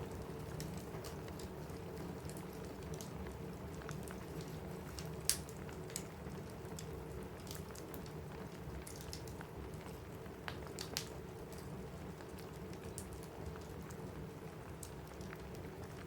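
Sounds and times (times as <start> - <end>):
rain on a roof: 0.0 - 16.0
wood fire crackling and popping: 0.0 - 16.0.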